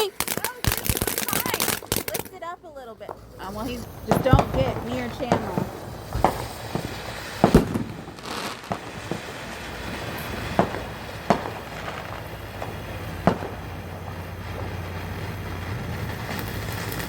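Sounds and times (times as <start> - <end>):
faint fireworks pops: 0.0 - 17.0
fireworks bangs: 0.0 - 17.0.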